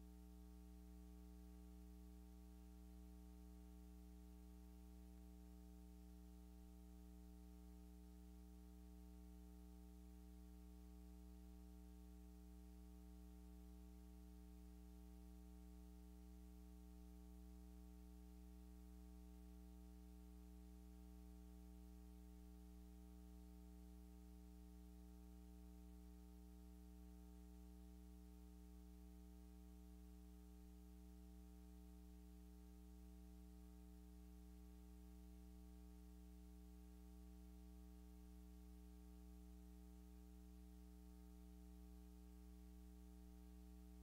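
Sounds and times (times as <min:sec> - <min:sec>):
faint electrical hum: 0:00.0 - 0:44.0.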